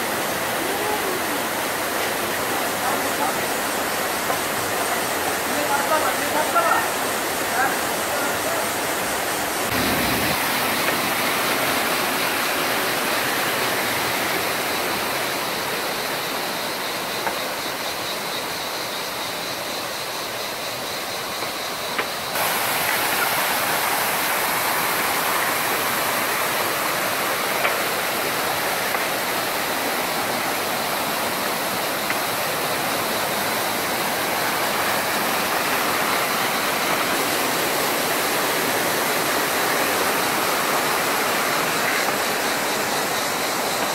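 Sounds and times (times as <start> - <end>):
stream and small waterfalls rushing: 0.0 - 43.9.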